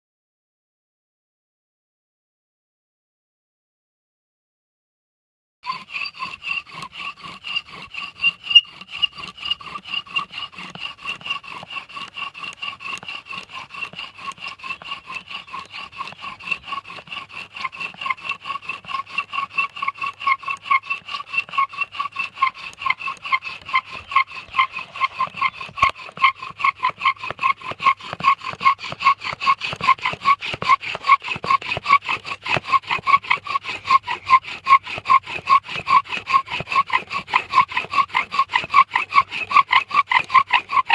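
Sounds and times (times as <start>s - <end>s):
bow drill squeaking rub: 5.7s - 40.9s.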